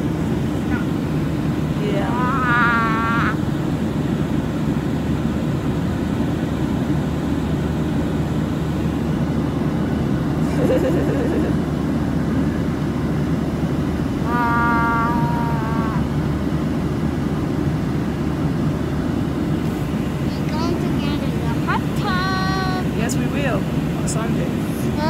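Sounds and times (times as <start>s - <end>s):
airliner cabin engine noise: 0.0s - 25.0s.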